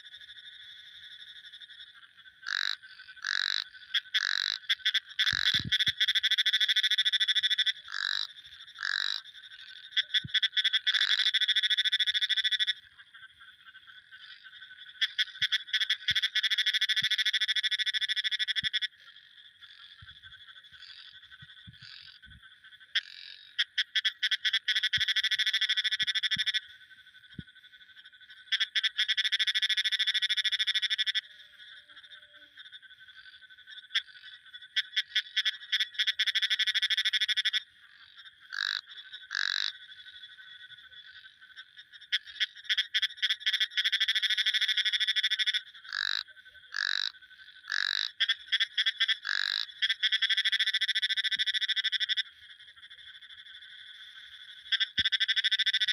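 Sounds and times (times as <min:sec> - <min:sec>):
faint frog chorus: 0:00.0 - 0:55.9
frogs trilling: 0:00.0 - 0:55.9.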